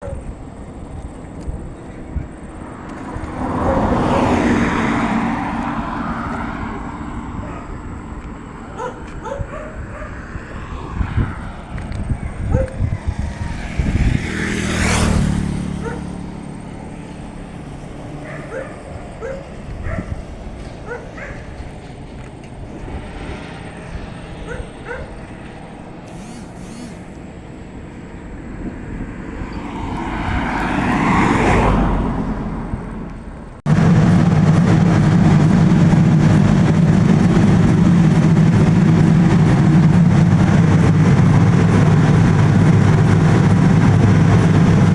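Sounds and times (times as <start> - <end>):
loud low engine hum: 0.0 - 44.9
vehicles passing: 0.0 - 44.9.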